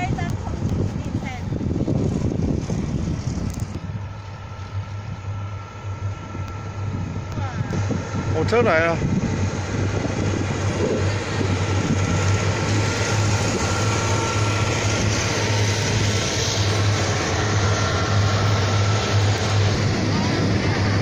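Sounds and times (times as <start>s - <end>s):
low hum: 0.0s - 21.0s
train wheels running on track: 0.0s - 21.0s.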